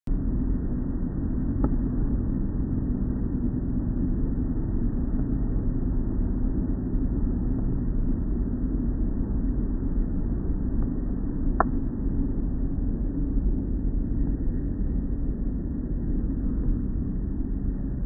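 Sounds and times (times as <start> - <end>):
muffled car wash rumble: 0.1 - 18.0.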